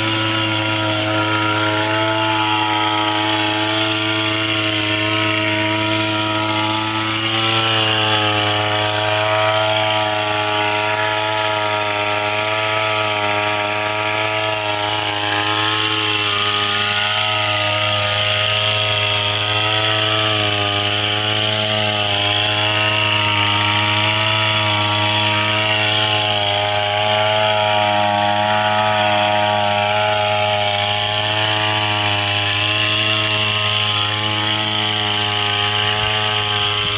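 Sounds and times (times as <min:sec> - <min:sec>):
small sprayer engine running: 0:00.0 - 0:36.9.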